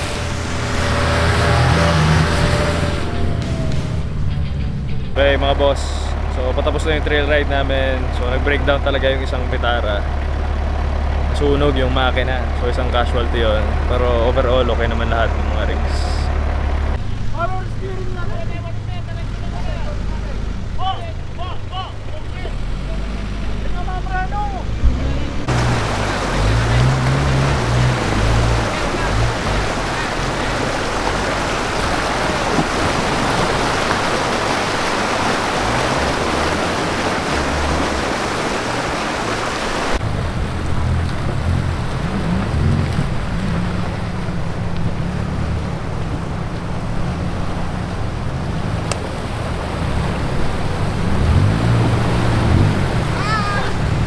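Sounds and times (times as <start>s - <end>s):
engines running under load: 0.0s - 54.0s
water rushing and splashing: 0.0s - 54.0s.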